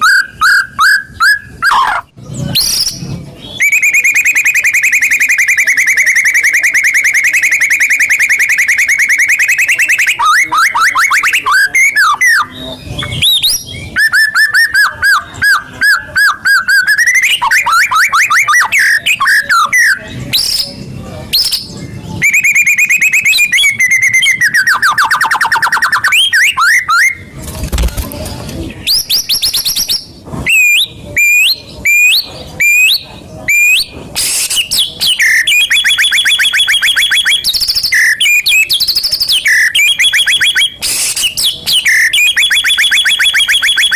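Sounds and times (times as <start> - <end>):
songbird trills and whistles: 0.0 - 27.2, 28.8 - 43.9.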